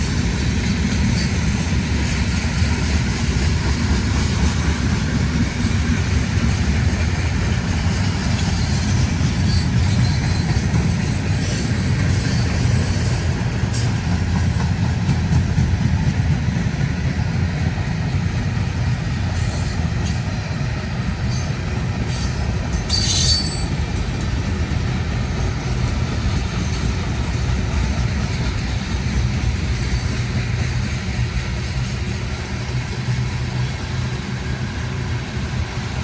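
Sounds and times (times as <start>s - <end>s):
train wheel squeals: 0.0s - 17.0s, 19.2s - 36.0s
train cars rumbling past: 0.0s - 36.0s.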